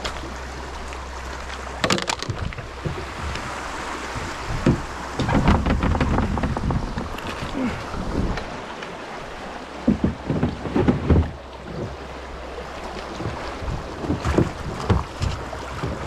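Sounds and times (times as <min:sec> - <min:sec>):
paddle and hull knocking on stones: 0:00.0 - 0:16.0
paddle splashes: 0:00.0 - 0:16.0
wind rumbling on microphone: 0:00.0 - 0:16.0.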